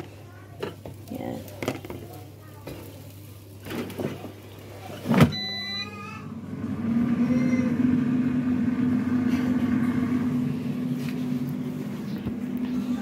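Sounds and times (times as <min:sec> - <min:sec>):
air fryer fan humming: 0:00.0 - 0:13.0
air fryer beeping: 0:01.6 - 0:13.0.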